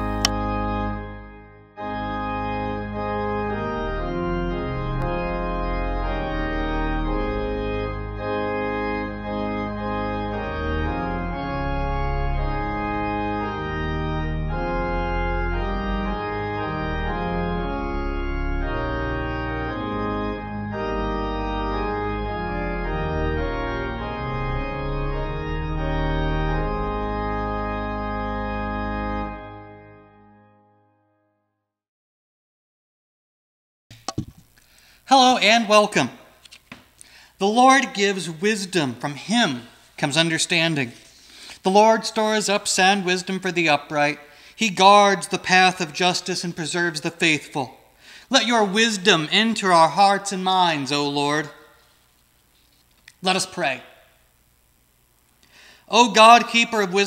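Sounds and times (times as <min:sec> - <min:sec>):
organ playing sustained chords: 0:00.0 - 0:31.3, 0:37.0 - 0:57.0.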